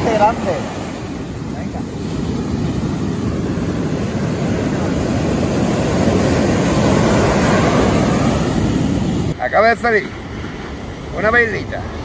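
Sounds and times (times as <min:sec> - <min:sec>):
surf rushing on shore: 0:00.0 - 0:12.0
wind buffeting microphone: 0:00.0 - 0:12.0.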